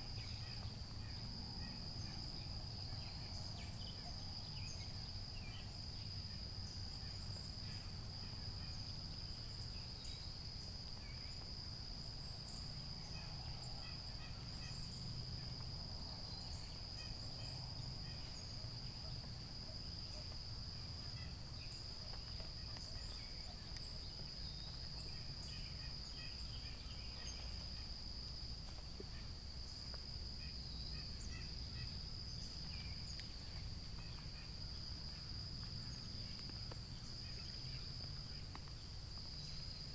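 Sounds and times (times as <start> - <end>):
chorus of insects: 0.0 - 39.9.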